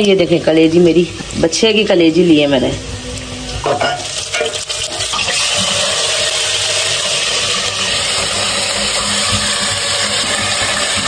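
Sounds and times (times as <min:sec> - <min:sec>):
liver and onions sizzling: 0:00.0 - 0:11.0.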